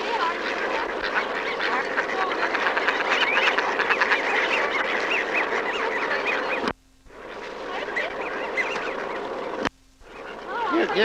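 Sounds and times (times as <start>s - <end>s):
low hum: 0.0s - 11.0s
waterfowl honking and quacking: 0.0s - 11.0s.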